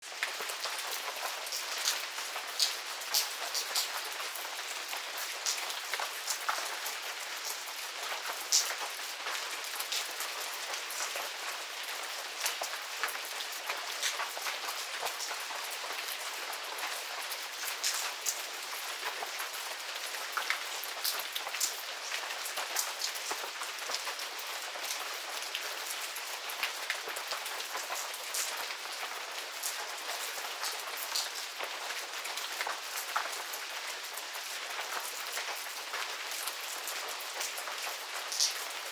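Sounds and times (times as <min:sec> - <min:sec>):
raindrops hitting surfaces: 0:00.0 - 0:38.9.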